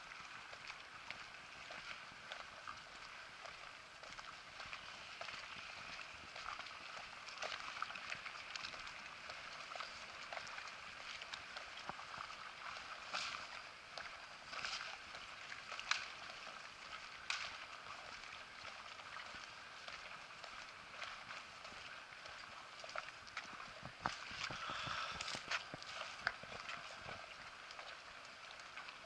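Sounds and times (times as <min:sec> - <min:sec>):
water lapping against stone: 0:00.0 - 0:29.0.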